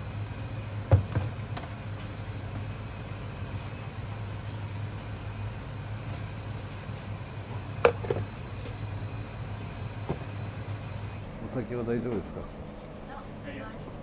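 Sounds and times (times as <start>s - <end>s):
kitchen machinery humming: 0.0s - 14.0s.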